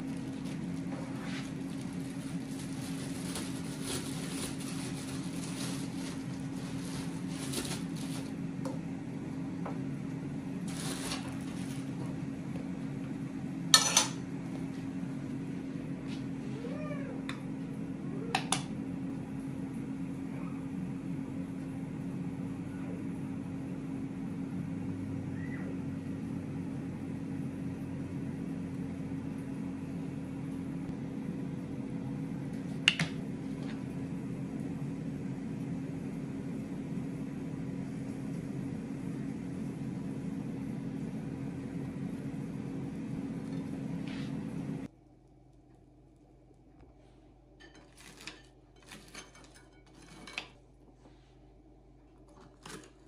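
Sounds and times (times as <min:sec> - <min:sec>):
appliance humming: 0:00.0 - 0:53.0.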